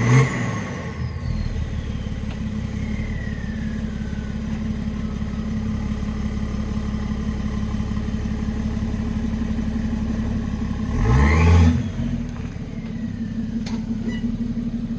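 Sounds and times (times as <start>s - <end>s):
diesel engine idling and revving: 0.0s - 14.9s.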